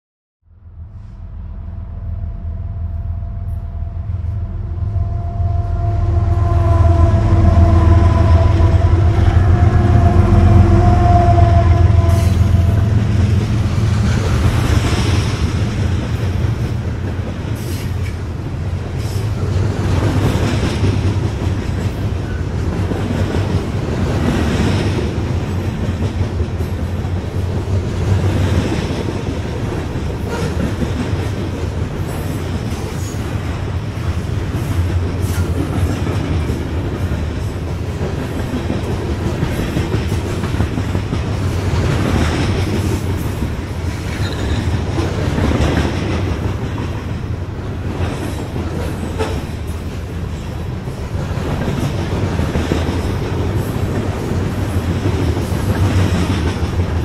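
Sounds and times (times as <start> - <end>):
train wheels rumbling on rail: 0.9 - 57.0.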